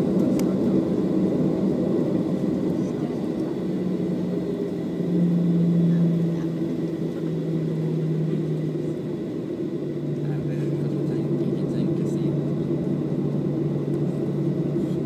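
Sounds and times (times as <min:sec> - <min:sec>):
airplane cabin rumble: 0:00.0 - 0:15.0
steady low hum: 0:00.0 - 0:15.0.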